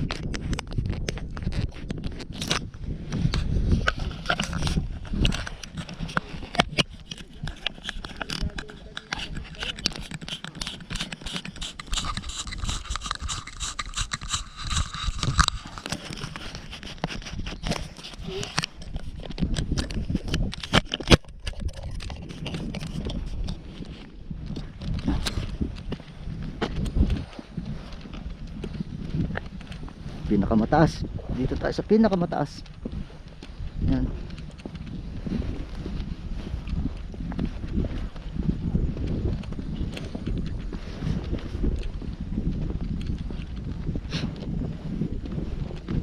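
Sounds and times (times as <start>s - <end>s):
footsteps on rough path: 0.0s - 46.0s.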